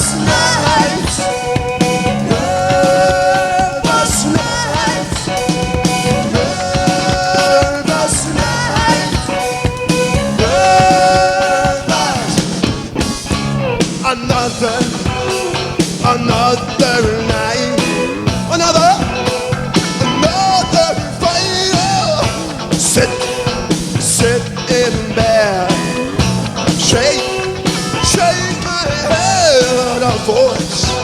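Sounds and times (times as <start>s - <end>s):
live rock band playing: 0.0s - 31.0s
sliding lead line: 0.0s - 31.0s.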